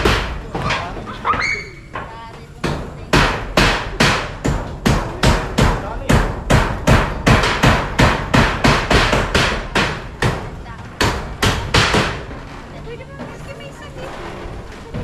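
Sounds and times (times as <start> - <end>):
hammer driving nails: 0.0 - 13.3.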